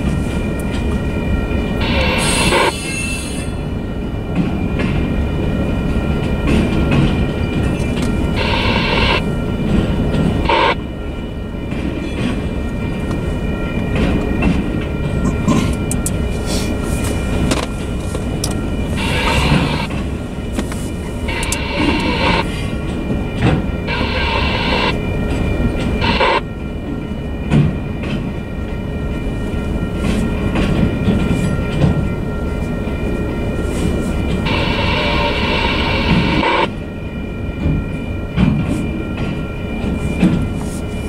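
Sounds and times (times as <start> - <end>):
train wheels clattering on rails: 0.0 - 36.8, 37.5 - 41.0
crossing bell ringing: 0.0 - 41.0.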